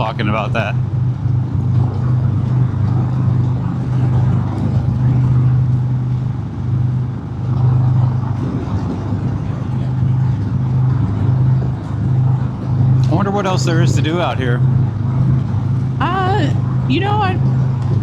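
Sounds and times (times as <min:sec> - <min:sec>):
motorcycle engine cruising: 0:00.0 - 0:18.0
road and wind hiss: 0:00.0 - 0:18.0.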